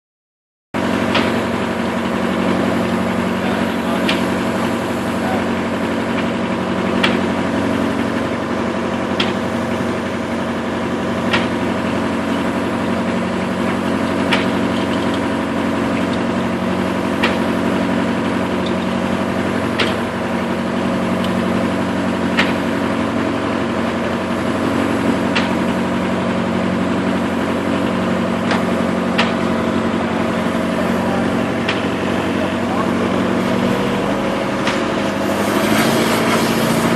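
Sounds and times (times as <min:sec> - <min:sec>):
sawmill machinery humming: 0:00.8 - 0:36.9.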